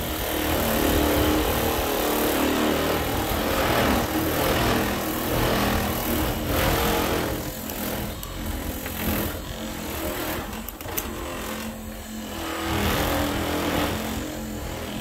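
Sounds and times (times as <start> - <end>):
electric buffer motor hum: 0.0 - 15.0.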